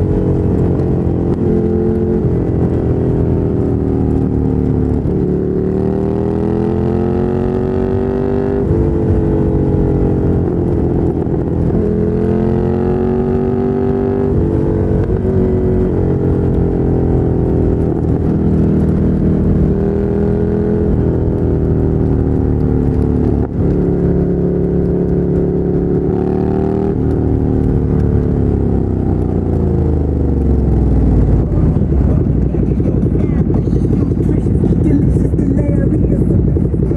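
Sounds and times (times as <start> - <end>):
motorcycle engine revving through gears: 0.0 - 36.9.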